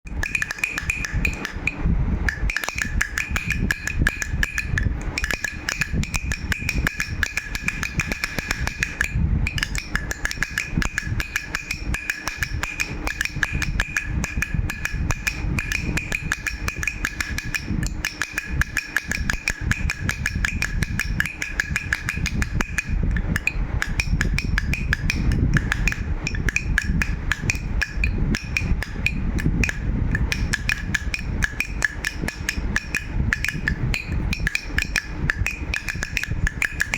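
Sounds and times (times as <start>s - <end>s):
baby rattle shaking: 0.2s - 36.9s.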